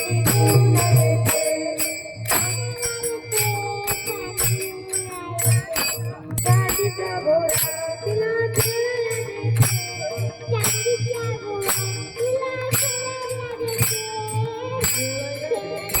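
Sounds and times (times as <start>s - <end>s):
boy singing: 0.0s - 16.0s
music with jingling percussion: 0.0s - 16.0s.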